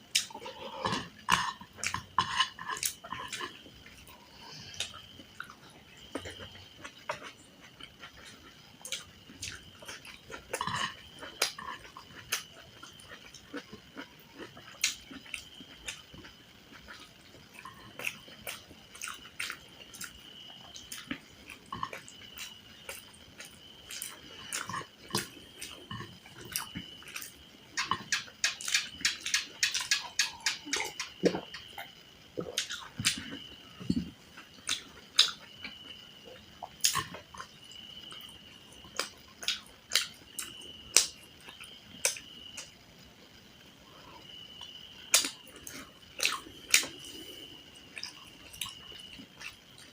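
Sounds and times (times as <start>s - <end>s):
chewing and mouth sounds: 0.1s - 42.7s, 44.6s - 49.9s.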